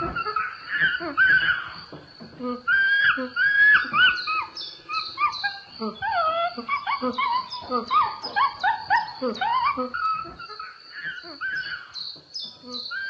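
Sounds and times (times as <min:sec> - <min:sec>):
high whining animal calls: 0:00.0 - 0:01.9, 0:02.7 - 0:12.0.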